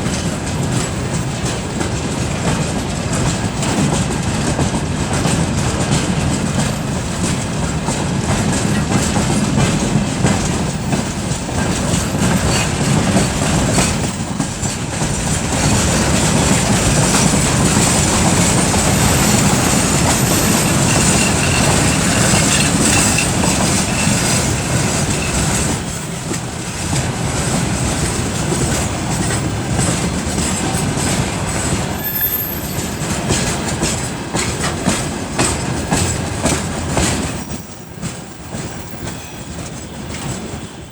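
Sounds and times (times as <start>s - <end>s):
diesel locomotive engine under load: 0.0s - 40.9s
train wheels clacking over rail joints: 0.0s - 40.9s.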